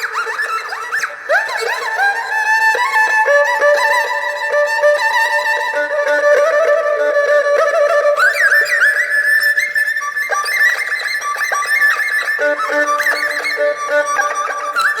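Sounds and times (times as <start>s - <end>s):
erhu playing slow melody: 0.0s - 15.0s.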